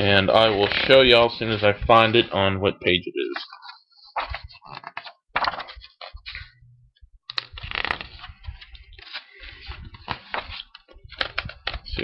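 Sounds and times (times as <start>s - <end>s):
paper pages rustling: 0.3s - 2.2s, 3.2s - 6.6s, 7.3s - 12.0s.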